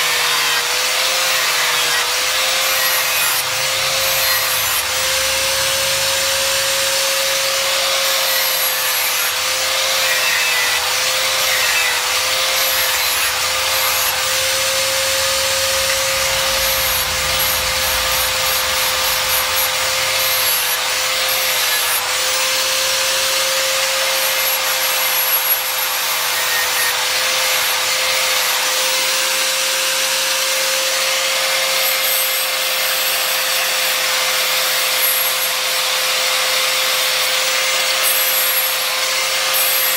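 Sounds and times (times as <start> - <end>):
disc grinding steel: 0.0 - 28.8, 31.5 - 39.9
angle grinder motor whine: 0.0 - 39.9.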